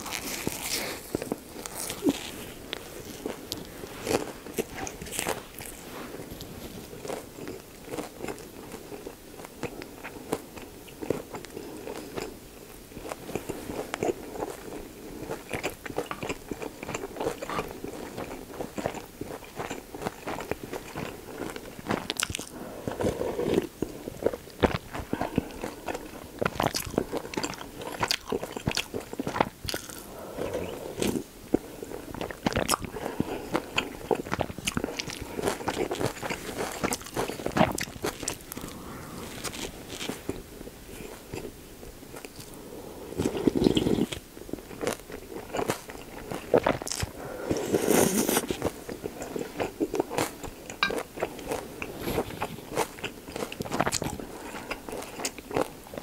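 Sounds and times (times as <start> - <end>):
close chewing with crunches: 0.0 - 56.0.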